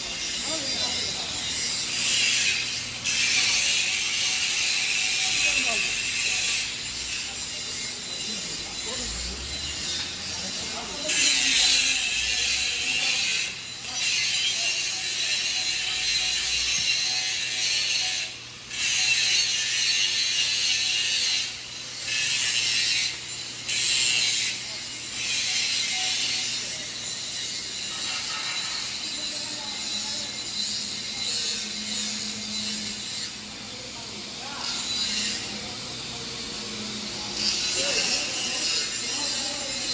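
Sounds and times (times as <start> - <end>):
arc welding crackling: 0.0 - 39.9.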